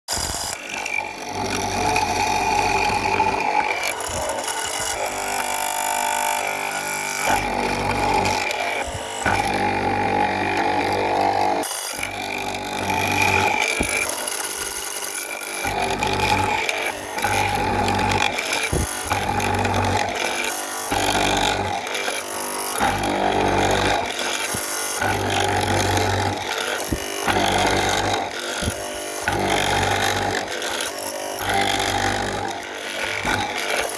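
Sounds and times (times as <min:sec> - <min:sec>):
power tool cutting wood: 0:00.1 - 0:33.9.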